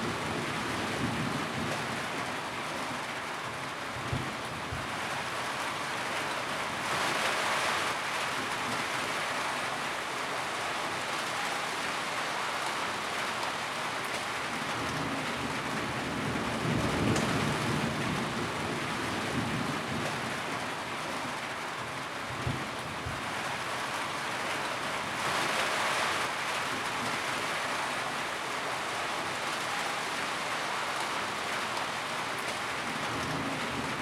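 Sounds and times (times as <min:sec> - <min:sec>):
rain drumming on a tin roof: 0:00.0 - 0:34.0.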